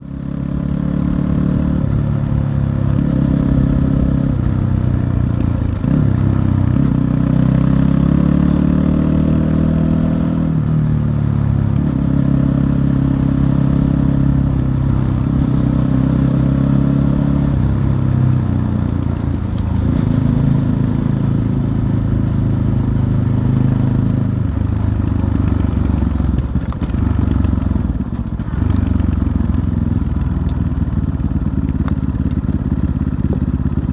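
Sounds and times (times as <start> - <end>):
motorcycle engine revving through gears: 0.0 - 33.9.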